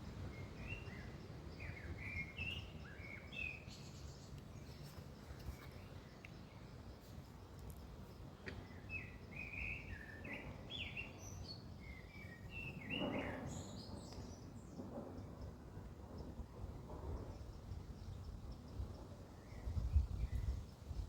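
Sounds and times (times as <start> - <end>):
faint outdoor background noise: 0.0 - 21.0
songbird singing: 0.0 - 21.0.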